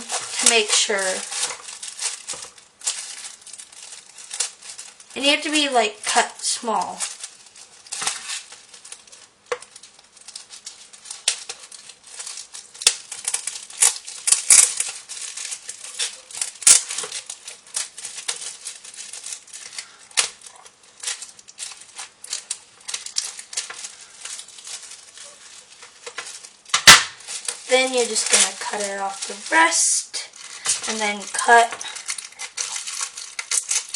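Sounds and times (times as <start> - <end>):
scissors snipping plastic film: 6.1 - 33.9.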